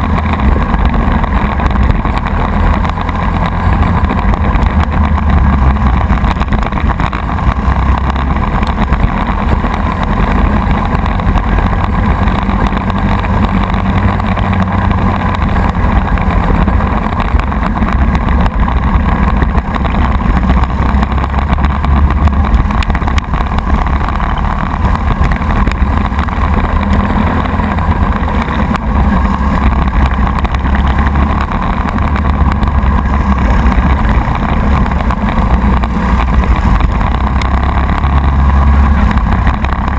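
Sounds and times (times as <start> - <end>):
kart engine running hard: 0.0 - 39.9
wind on microphone: 0.0 - 39.9.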